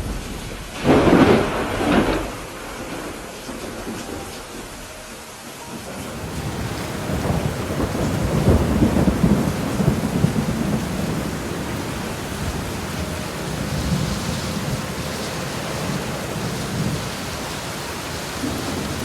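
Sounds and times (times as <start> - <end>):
thunder rolling: 0.0 - 5.1, 5.7 - 19.0
heavy rain: 0.0 - 19.0.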